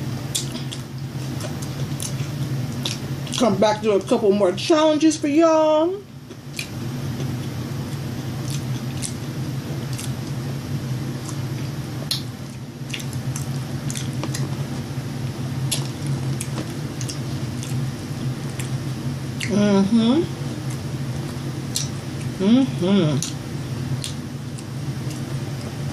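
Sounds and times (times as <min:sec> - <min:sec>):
steady low hum: 0:00.0 - 0:25.9
person chewing: 0:00.2 - 0:03.5, 0:06.2 - 0:19.6, 0:20.3 - 0:22.4, 0:23.1 - 0:25.9.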